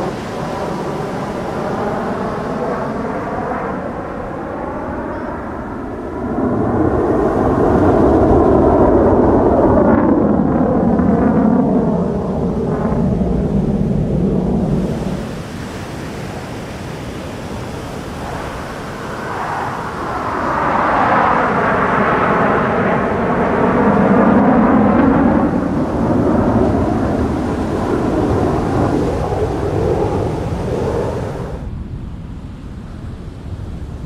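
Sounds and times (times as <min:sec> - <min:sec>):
fighter jet roaring past: 0:00.0 - 0:31.8.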